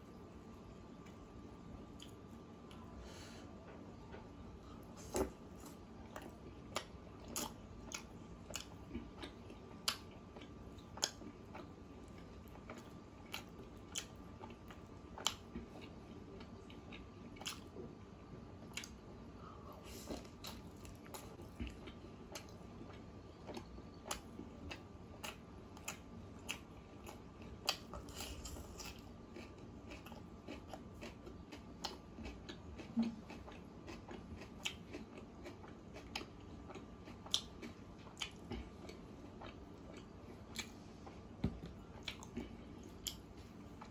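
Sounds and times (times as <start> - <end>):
person chewing food: 4.1 - 18.0, 18.6 - 19.0, 19.9 - 43.9.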